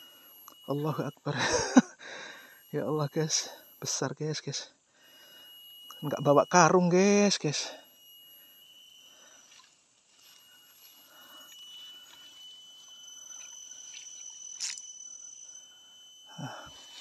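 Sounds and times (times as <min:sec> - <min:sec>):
insects calling: 0:00.0 - 0:17.0.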